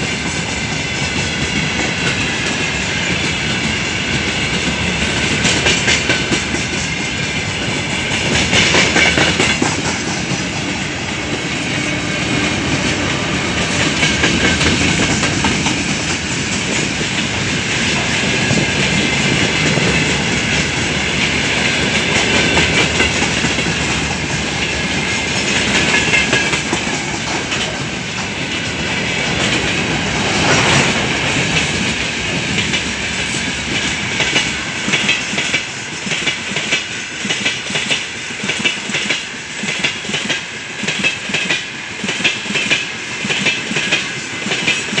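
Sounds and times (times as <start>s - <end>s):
freight train wheels clacking: 0.0s - 45.0s.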